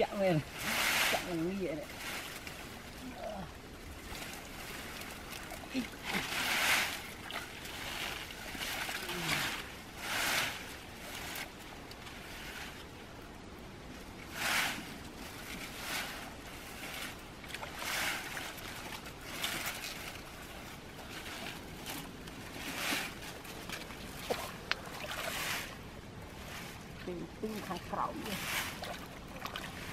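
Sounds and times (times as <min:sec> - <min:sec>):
net swishing through water: 0:00.2 - 0:13.0, 0:14.2 - 0:29.9.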